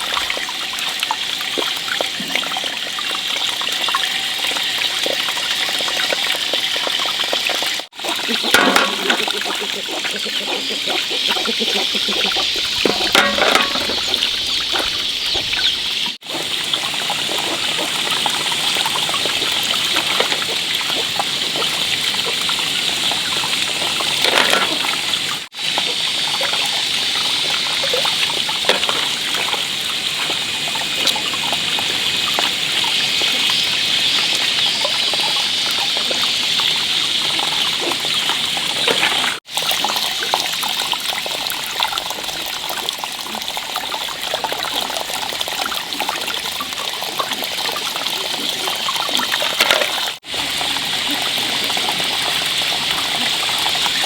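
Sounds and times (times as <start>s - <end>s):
water running and trickling: 0.0s - 54.0s.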